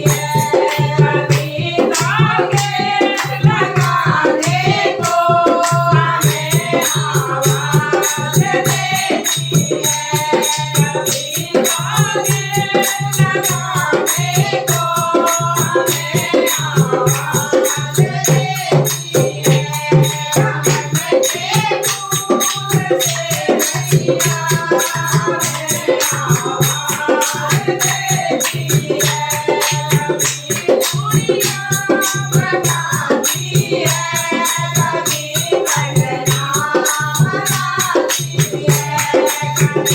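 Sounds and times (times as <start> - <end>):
fast rattling percussion: 0.0 - 39.9
person singing devotional song: 0.0 - 39.9.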